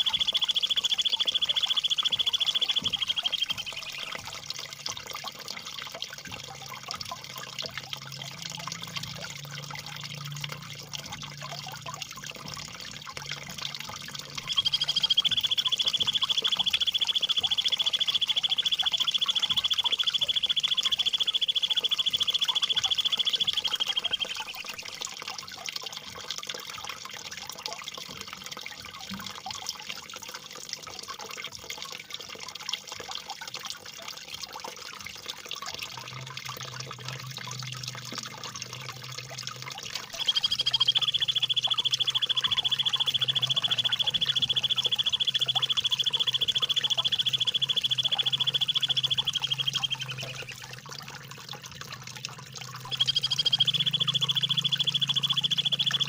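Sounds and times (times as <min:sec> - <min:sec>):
trickling gurgling water: 0:00.0 - 0:56.0.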